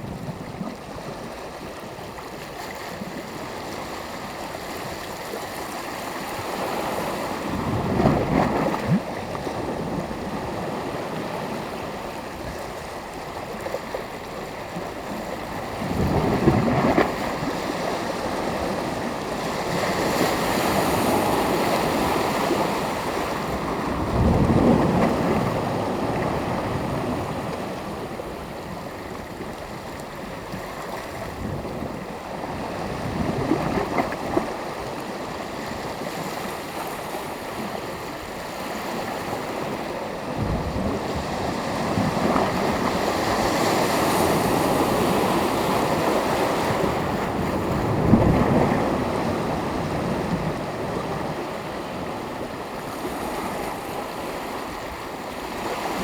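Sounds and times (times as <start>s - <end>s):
surf washing: 0.0s - 56.0s
waves breaking on shore: 0.0s - 56.0s.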